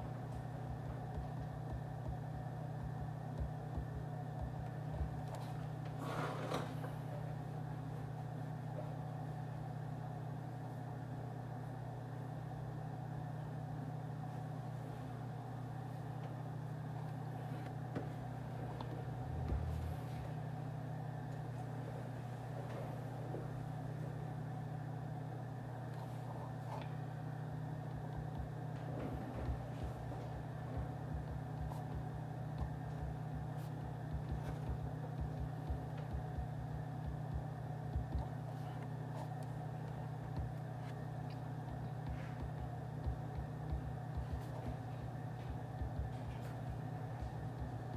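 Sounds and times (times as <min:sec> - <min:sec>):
office hum: 0:00.0 - 0:47.9.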